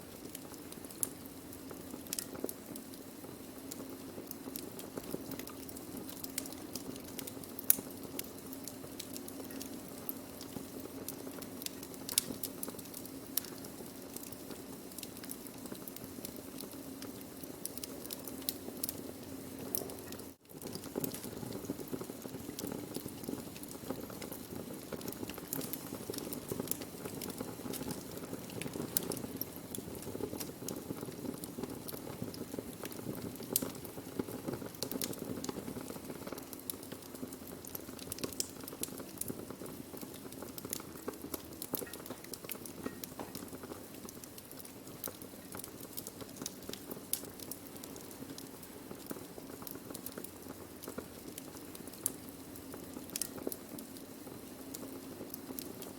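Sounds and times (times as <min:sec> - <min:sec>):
burning wood crackling and popping: 0:00.0 - 0:55.9.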